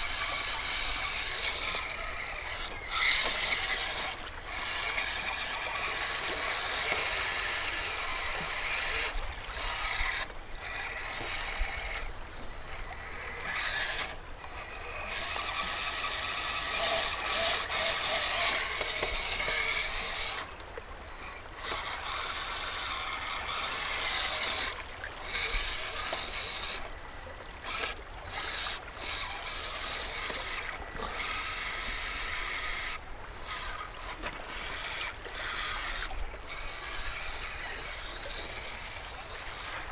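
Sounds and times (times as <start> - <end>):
toy car motor whining and grinding: 0.0 - 39.9.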